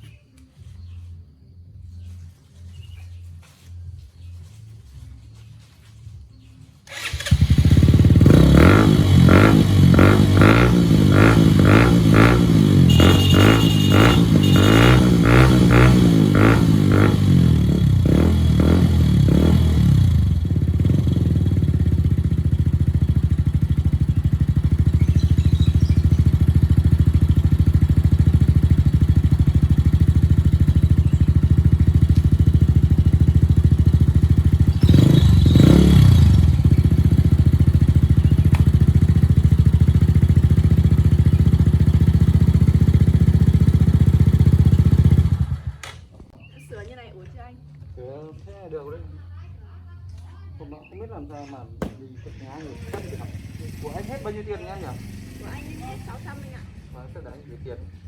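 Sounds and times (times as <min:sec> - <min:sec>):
motorcycle engine revving and idling: 0:05.2 - 0:46.4, 0:50.9 - 0:58.0.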